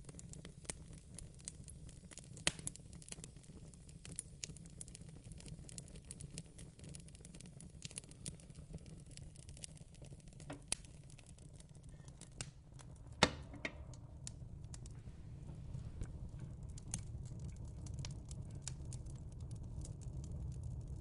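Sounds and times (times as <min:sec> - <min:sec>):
fire pops and snaps: 0:00.0 - 0:21.0
low rumble of fire: 0:00.0 - 0:21.0.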